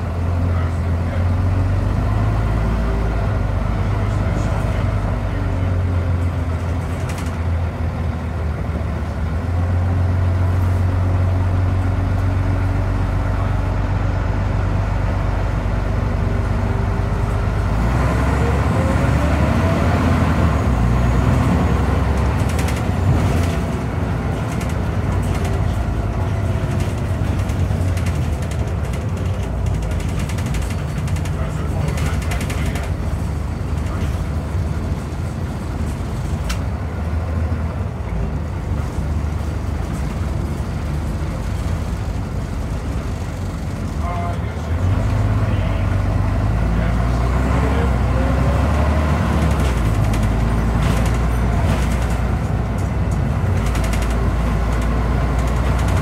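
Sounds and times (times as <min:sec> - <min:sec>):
diesel bus engine: 0:00.0 - 0:56.0.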